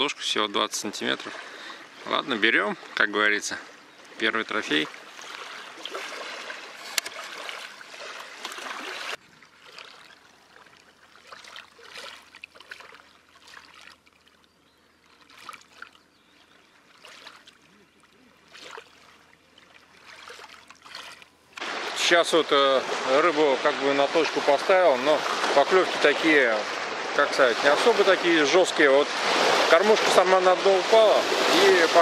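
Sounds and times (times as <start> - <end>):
small waves lapping at shoreline: 0.0 - 32.0.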